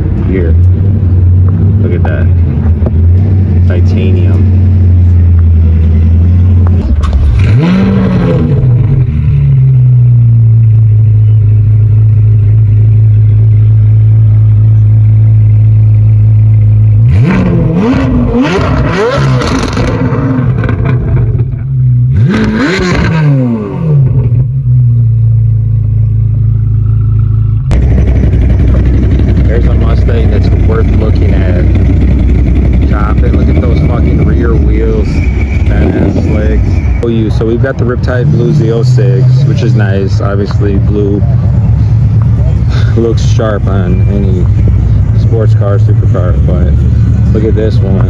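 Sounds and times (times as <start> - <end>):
car engine idling and revving: 0.0 - 48.0.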